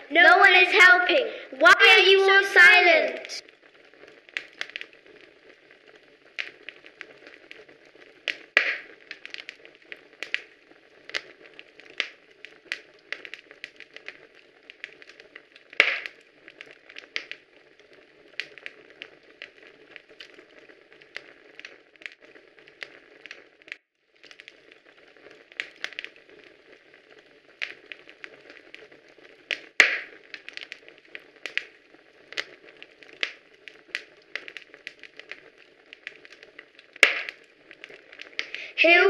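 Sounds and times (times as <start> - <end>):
steady hiss: 0.0 - 23.7, 24.4 - 39.0
crackling clicks and pops: 0.0 - 39.0.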